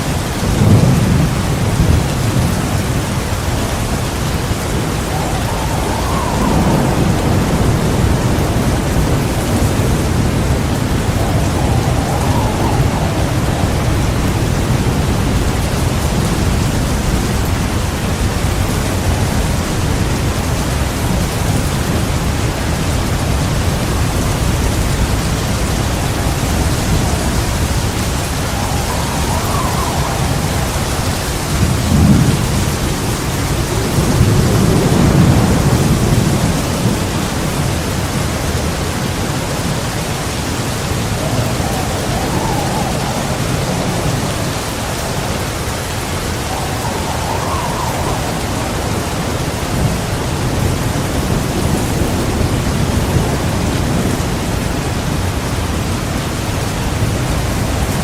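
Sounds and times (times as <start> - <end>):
heavy rain pouring: 0.0 - 58.0
thunder rumbling: 0.0 - 58.0.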